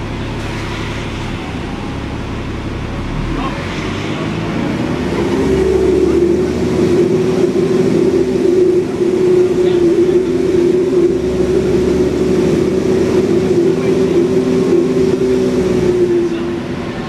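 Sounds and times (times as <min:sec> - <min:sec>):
bus engine pulling hard: 0:00.0 - 0:17.0
loud steady whine: 0:00.0 - 0:17.0.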